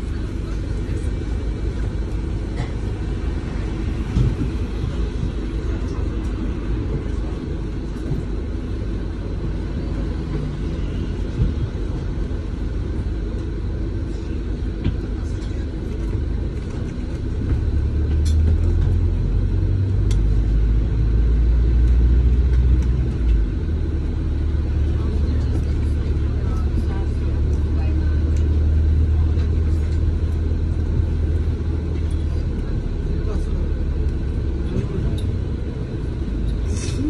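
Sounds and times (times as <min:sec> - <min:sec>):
bus engine rumble: 0:00.0 - 0:37.0.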